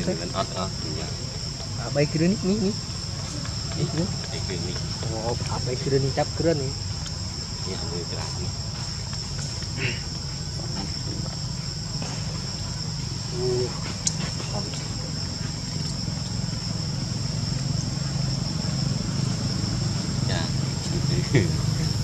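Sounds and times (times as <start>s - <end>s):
shrill insect chorus: 0.0s - 22.0s.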